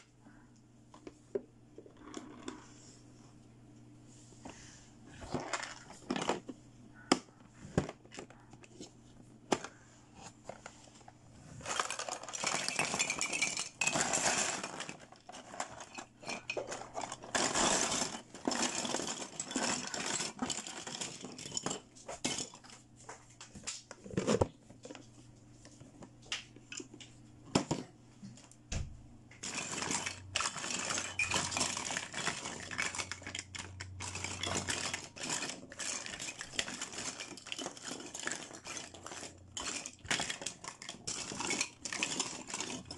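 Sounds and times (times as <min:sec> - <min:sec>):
plastic toys clattering: 0:05.1 - 0:22.8, 0:24.0 - 0:25.1, 0:25.7 - 0:27.9, 0:29.4 - 0:42.9.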